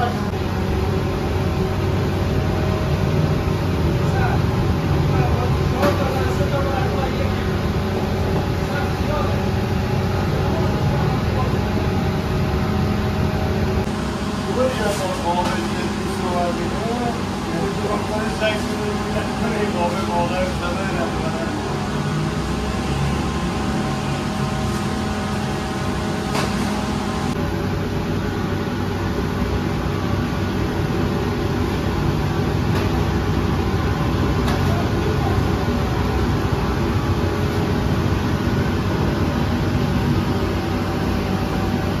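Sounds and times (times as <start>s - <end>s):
machine humming: 0.0s - 42.0s.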